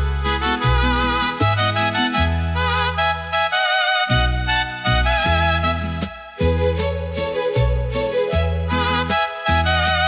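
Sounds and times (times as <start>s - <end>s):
mariachi-style instrumental music: 0.0s - 10.0s.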